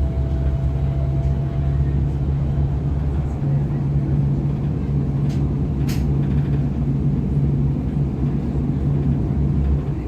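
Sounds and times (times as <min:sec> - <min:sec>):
constant low hum: 0:00.0 - 0:10.0
train running gear rumble: 0:00.0 - 0:10.0.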